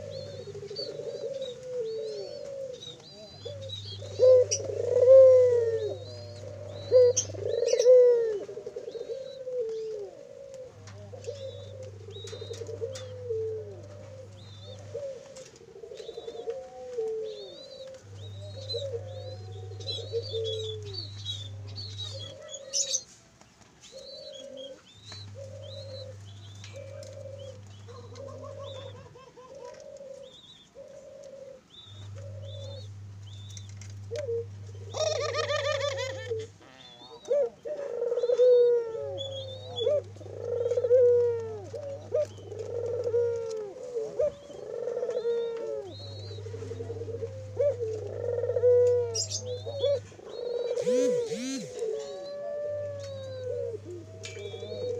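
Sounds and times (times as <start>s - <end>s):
doves cooing: 0.0s - 54.9s
low steady hum: 0.0s - 54.9s
small birds chirping: 0.0s - 54.9s.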